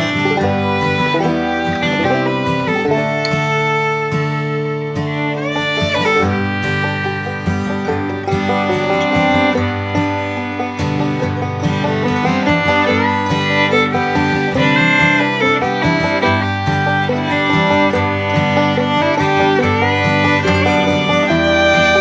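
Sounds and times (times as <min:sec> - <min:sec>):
upbeat country music with fiddle: 0:00.0 - 0:22.0.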